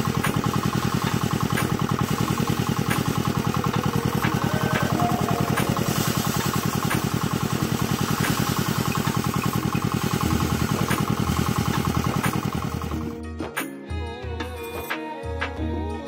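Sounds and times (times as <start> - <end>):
heavy machine engine pulsing: 0.0 - 13.2
music: 0.0 - 16.0.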